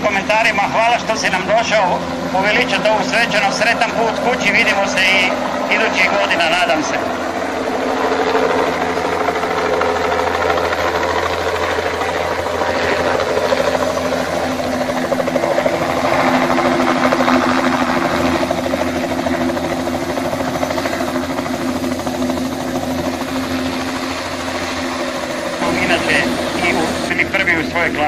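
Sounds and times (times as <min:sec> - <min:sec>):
helicopter engine tone: 0:00.0 - 0:28.0
helicopter rotor chop: 0:00.0 - 0:28.0.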